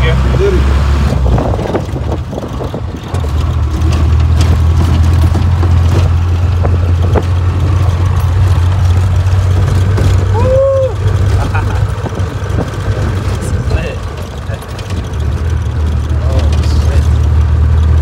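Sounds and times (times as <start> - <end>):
car engine running: 0.0 - 18.0
car knocks and rattles on bumps: 1.1 - 18.0.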